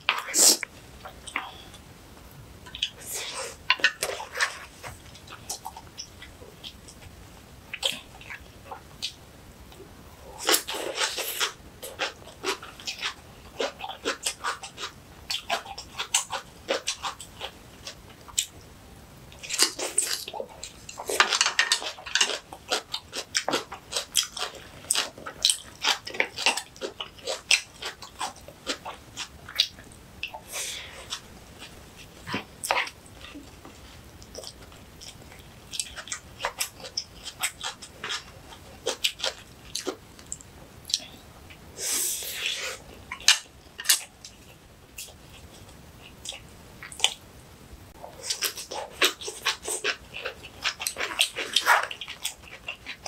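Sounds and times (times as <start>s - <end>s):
crunchy chewing: 7.7s - 18.6s, 19.3s - 47.2s, 48.0s - 53.0s.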